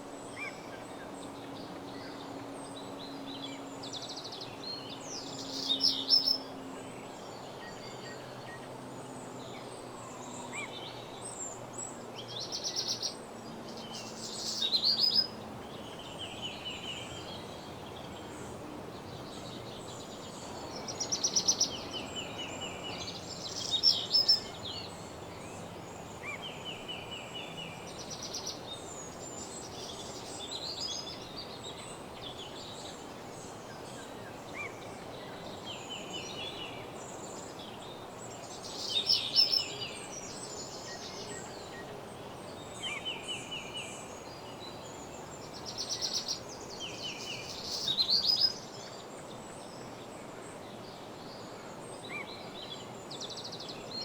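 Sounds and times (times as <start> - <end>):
songbirds singing: 0.0 - 54.0
steady background hiss: 0.0 - 54.0.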